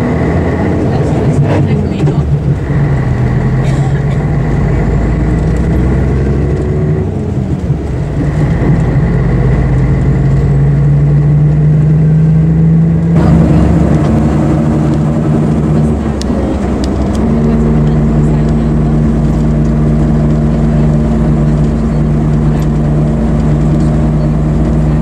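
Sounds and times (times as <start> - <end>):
diesel bus engine under load: 0.0 - 25.0.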